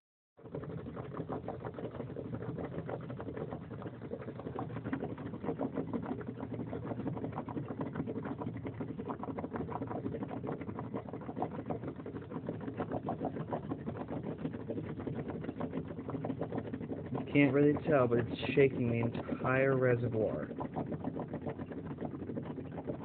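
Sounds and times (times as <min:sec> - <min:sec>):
coolant boiling and gurgling: 0:00.4 - 0:23.0
engine humming: 0:00.8 - 0:23.0.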